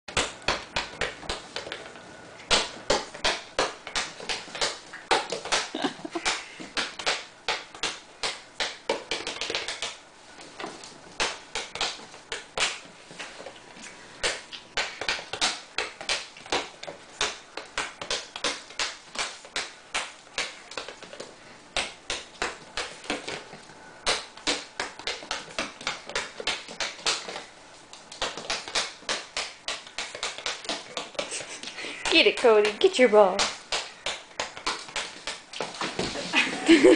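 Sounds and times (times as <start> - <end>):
ball bouncing on hardwood floor: 0.1 - 1.9, 2.5 - 13.6, 14.2 - 36.8.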